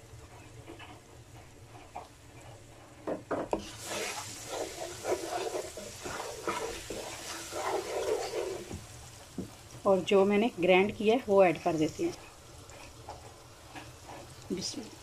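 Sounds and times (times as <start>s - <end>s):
spatula stirring and scraping: 0.0s - 9.9s, 10.9s - 15.0s
paste sizzling in hot oil: 0.0s - 15.0s.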